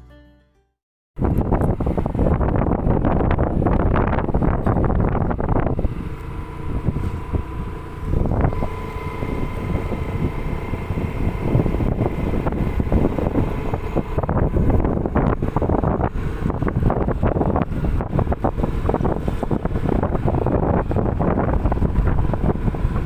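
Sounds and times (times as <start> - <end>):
wind buffeting microphone: 1.2 - 23.0.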